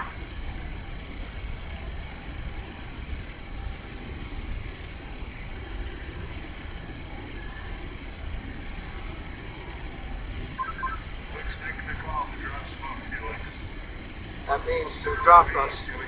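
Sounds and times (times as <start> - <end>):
low rumble with hiss: 0.0 - 16.0.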